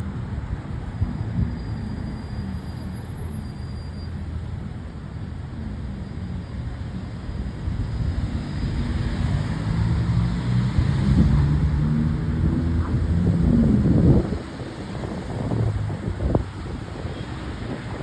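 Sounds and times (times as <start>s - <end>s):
wind noise on microphone: 0.0s - 3.7s, 6.8s - 18.0s.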